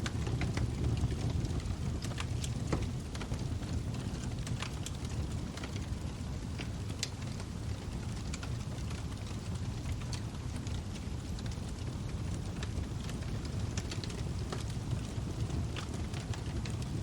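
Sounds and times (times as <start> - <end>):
log fire burning: 0.0 - 17.0.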